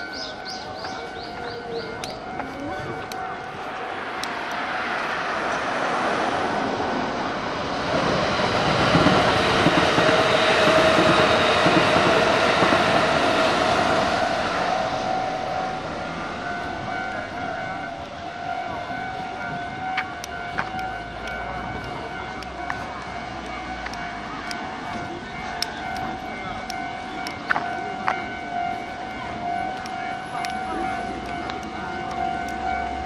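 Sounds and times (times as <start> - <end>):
electric train passing on track: 0.0 - 33.0.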